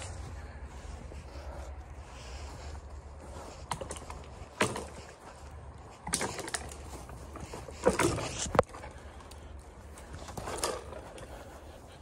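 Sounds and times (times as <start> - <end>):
footsteps crunching over snow: 0.0 - 12.0.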